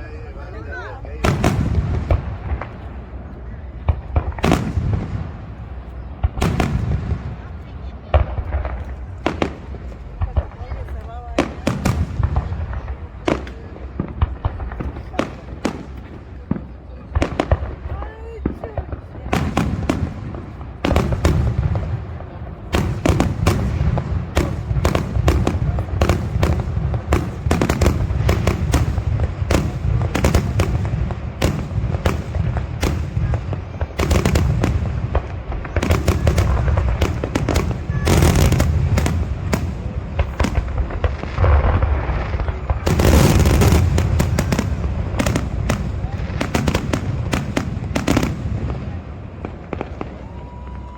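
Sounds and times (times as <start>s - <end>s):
fireworks bangs: 0.0s - 50.9s
fireworks crackle: 0.0s - 50.9s.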